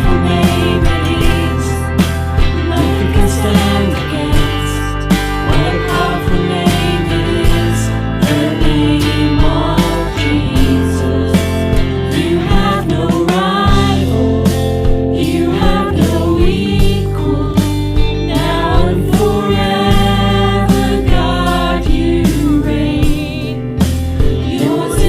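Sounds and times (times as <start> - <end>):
band accompaniment with steady beat: 0.0 - 25.0
person singing: 0.0 - 25.0.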